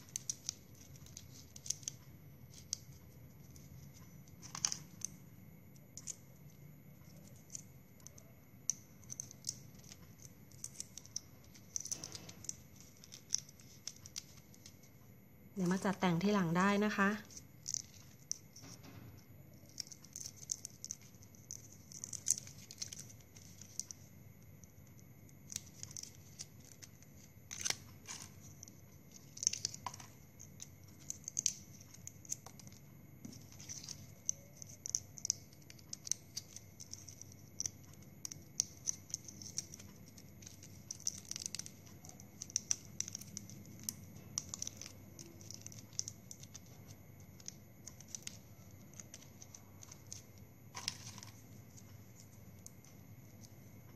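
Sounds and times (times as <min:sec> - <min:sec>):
plastic straws clicking and crinkling: 0:00.0 - 0:53.9.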